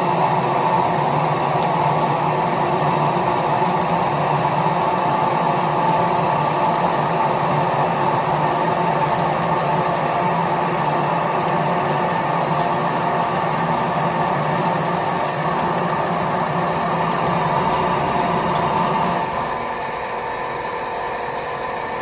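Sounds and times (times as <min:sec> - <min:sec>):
lathe machine hum: 0:00.0 - 0:22.0.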